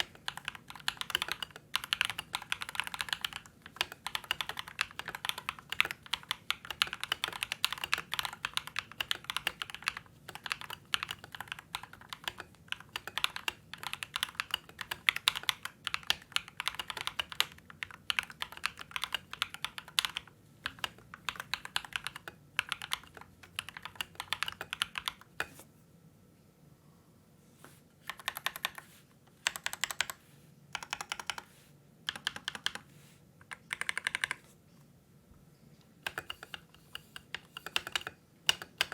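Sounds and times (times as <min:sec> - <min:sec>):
mechanical keyboard typing: 0:00.0 - 0:25.6, 0:28.0 - 0:28.8, 0:29.4 - 0:31.5, 0:32.1 - 0:34.5, 0:36.0 - 0:38.9.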